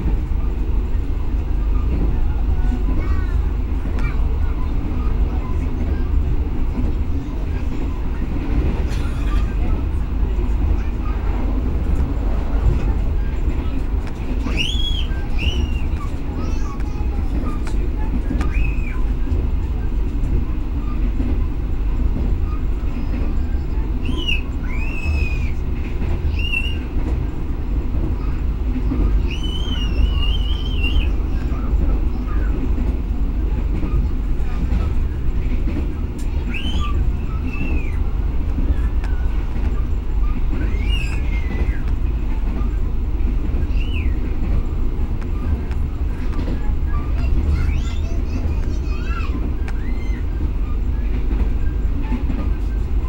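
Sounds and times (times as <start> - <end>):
train rumbling at speed: 0.0 - 53.0.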